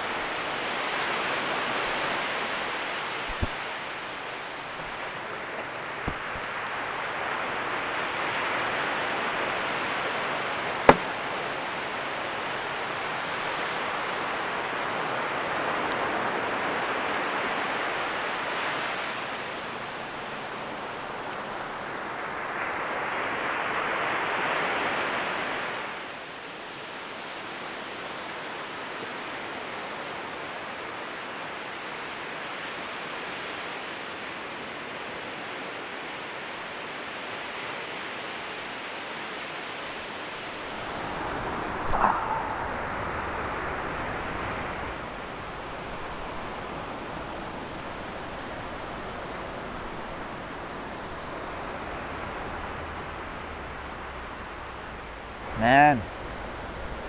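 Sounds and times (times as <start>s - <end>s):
ocean surf on beach: 0.0s - 57.0s.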